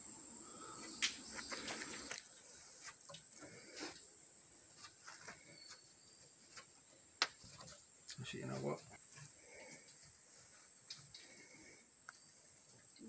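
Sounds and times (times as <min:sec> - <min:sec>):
high insect whine: 0:00.0 - 0:13.0.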